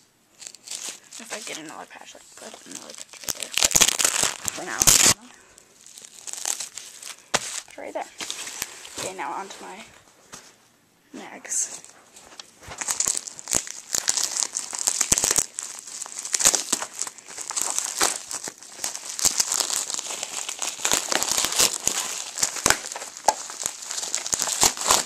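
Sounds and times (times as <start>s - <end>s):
packaging crinkling: 0.4s - 9.8s, 11.8s - 25.0s.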